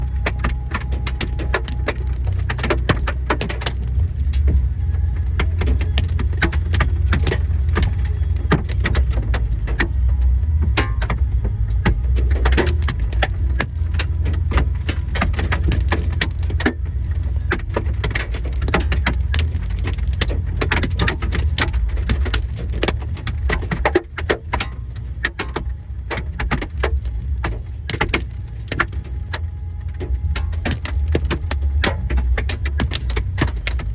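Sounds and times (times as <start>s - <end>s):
hailstones hitting a vehicle: 0.0s - 4.7s, 5.3s - 33.9s
low rumble: 0.0s - 33.9s.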